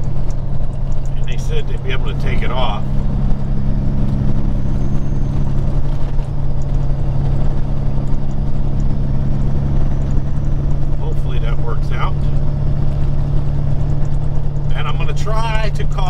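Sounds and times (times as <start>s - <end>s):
truck diesel engine cruising: 0.0s - 16.0s
tyre and road noise: 0.0s - 16.0s.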